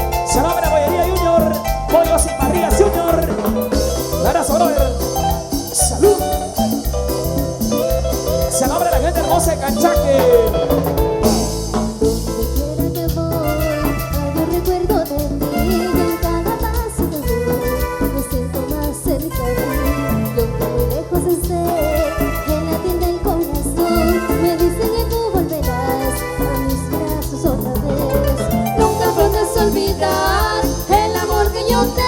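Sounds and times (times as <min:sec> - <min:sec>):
cumbia band playing: 0:00.0 - 0:32.0
wavering melodic lead line: 0:00.0 - 0:32.0.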